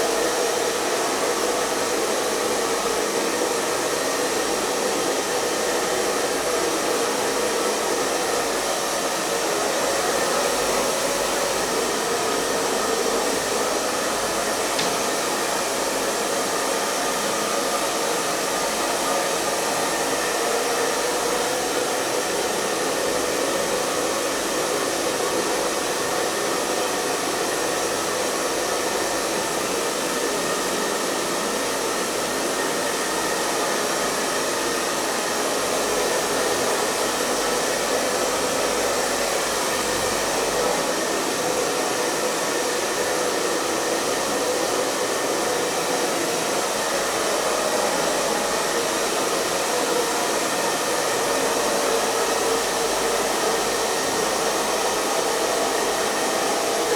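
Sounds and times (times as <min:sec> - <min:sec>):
hair dryer running: 0:00.0 - 0:56.9.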